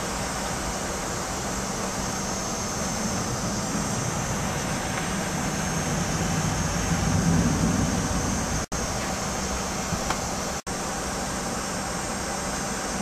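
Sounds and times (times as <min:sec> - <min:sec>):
aircraft cabin engine hum: 0:00.0 - 0:13.0
faint high whine: 0:00.0 - 0:13.0.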